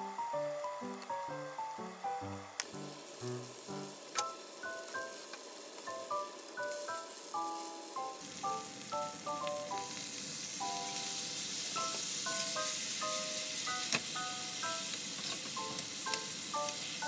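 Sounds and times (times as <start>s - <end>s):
bright background music: 0.0s - 17.0s
fish sizzling in a frying pan: 0.0s - 17.0s.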